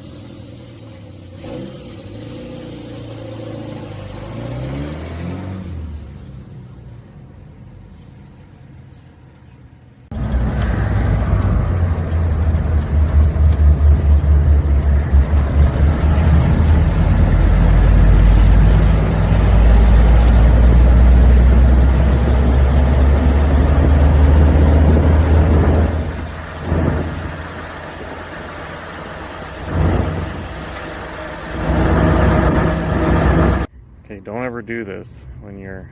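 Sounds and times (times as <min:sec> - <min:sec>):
engine and road rumble: 0:00.0 - 0:35.9.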